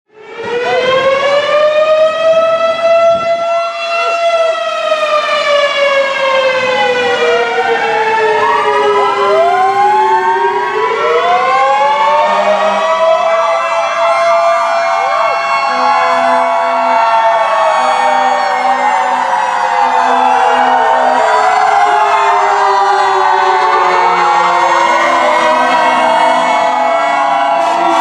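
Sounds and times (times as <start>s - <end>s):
fire truck sirens wailing: 0.1s - 28.0s.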